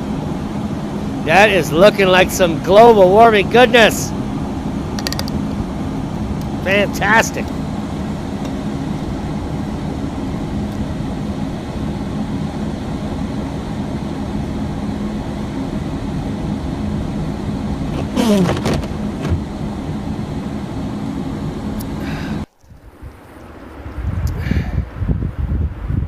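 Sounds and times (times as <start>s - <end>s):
vehicle engine drone and road noise: 0.0s - 26.0s.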